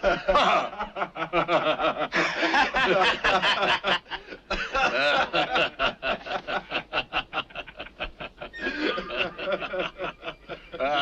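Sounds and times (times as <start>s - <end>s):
men laughing: 0.0s - 11.0s.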